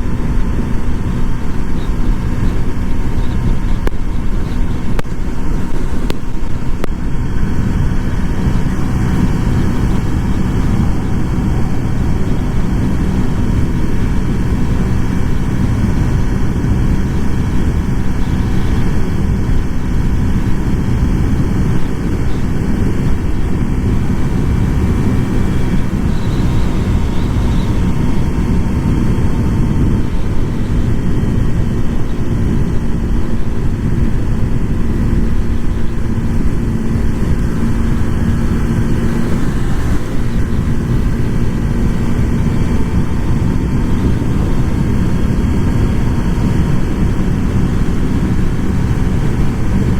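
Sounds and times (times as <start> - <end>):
motorcycle engine cruising: 0.0 - 49.9
wind and road noise: 0.0 - 49.9.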